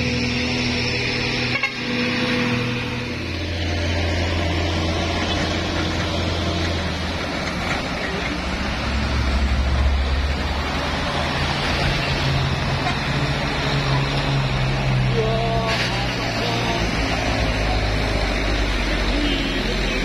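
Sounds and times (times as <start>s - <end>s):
truck engine droning uphill: 0.0s - 20.0s.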